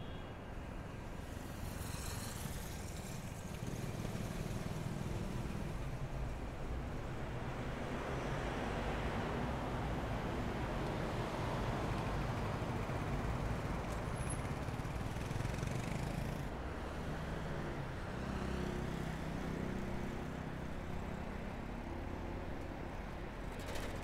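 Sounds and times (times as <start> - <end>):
road traffic going by: 0.0 - 24.0
vehicle engine humming nearby: 0.0 - 24.0.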